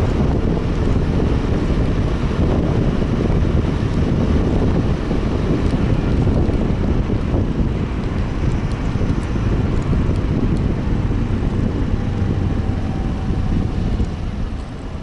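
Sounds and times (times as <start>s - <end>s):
tyres on road: 0.0s - 15.0s
wind rushing over microphone: 0.0s - 15.0s.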